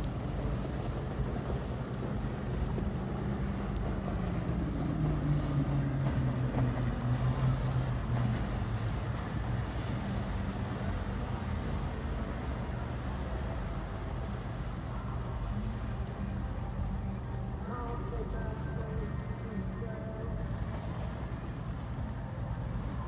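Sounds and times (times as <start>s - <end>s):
low water rumble: 0.0s - 23.0s
motorboat engine drone: 0.0s - 23.0s.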